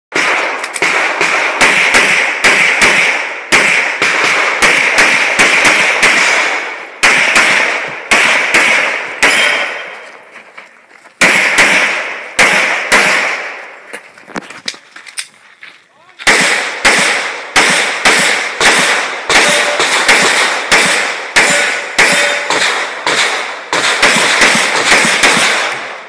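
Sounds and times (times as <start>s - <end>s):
pistol shots with echo: 0.1s - 10.0s, 11.2s - 13.8s, 16.2s - 26.0s.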